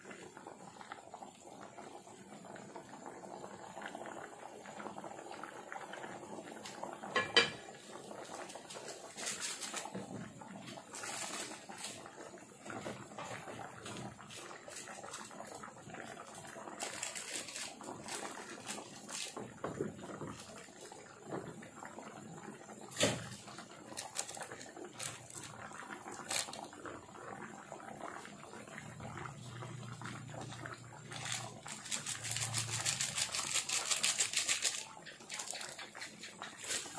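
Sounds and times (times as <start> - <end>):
gravy simmering in a frying pan: 0.0 - 33.8, 34.8 - 36.9.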